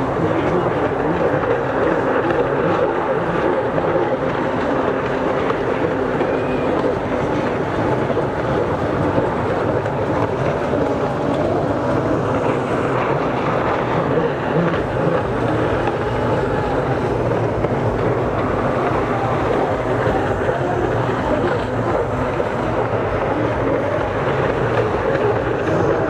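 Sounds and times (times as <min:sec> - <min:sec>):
jet ski engines droning: 0:00.0 - 0:26.0.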